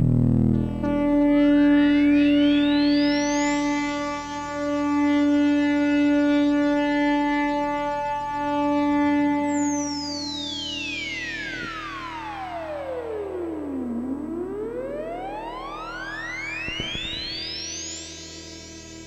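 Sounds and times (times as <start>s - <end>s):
buzzy synthesizer note: 0.0s - 19.0s
synthesizer pitch glide: 0.4s - 19.0s.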